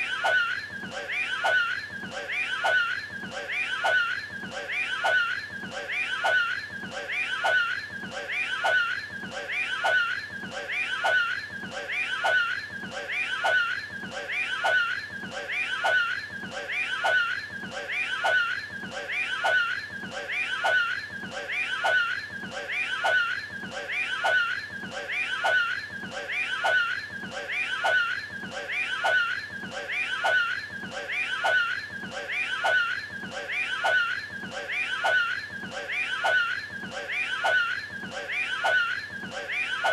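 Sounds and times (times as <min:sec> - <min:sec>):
strained vocal noise looping: 0:00.0 - 0:39.9.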